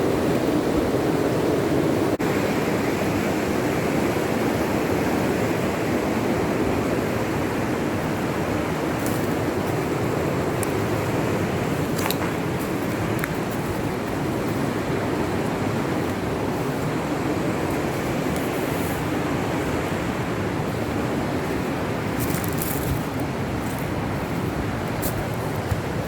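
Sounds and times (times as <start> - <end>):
river rapids roaring: 0.0 - 26.0.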